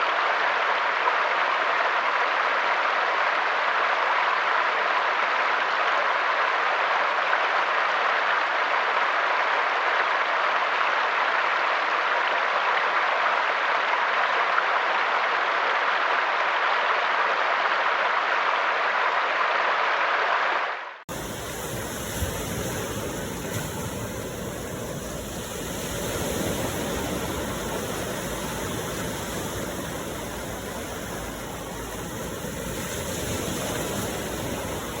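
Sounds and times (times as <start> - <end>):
flowing water rushing: 0.0 - 35.0.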